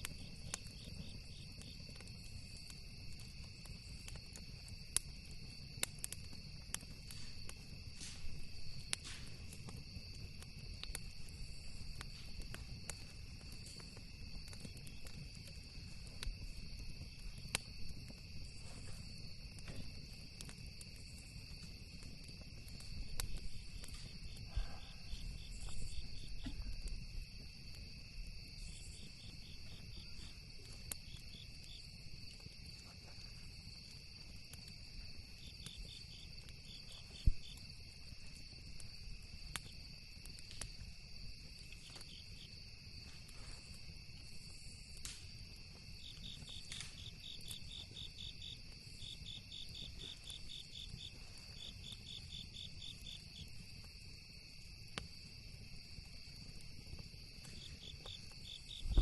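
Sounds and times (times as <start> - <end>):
campfire crackling: 0.0 - 59.0
insects chirping: 0.0 - 59.0.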